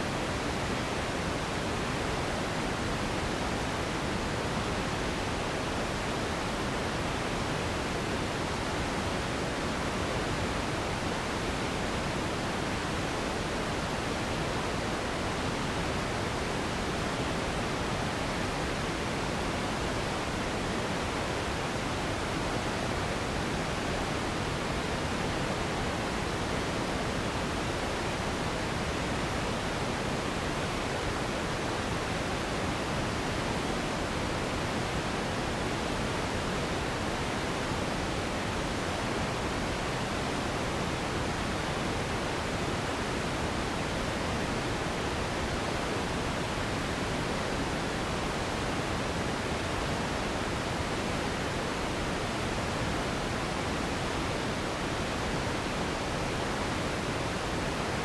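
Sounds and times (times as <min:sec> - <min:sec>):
steady synthetic noise hiss: 0:00.0 - 0:58.0.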